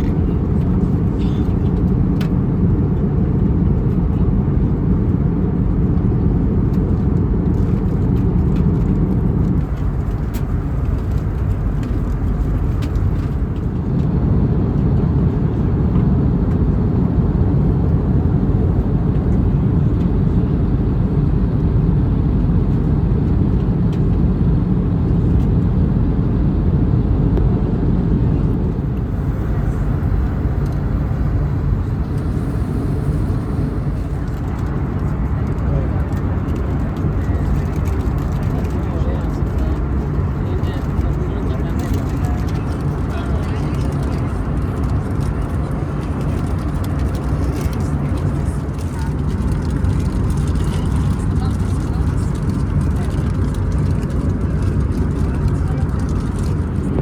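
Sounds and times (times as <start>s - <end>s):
airplane cabin engine roar: 0.0s - 57.0s.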